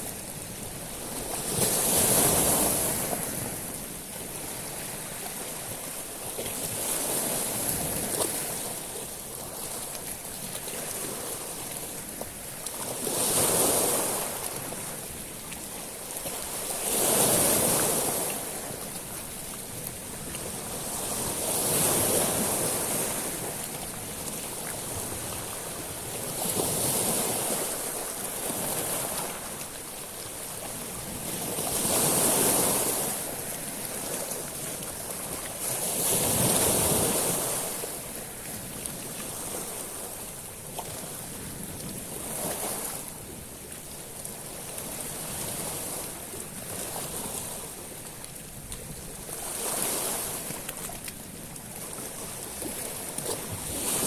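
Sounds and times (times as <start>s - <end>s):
waves on a pebble beach: 0.0s - 54.0s.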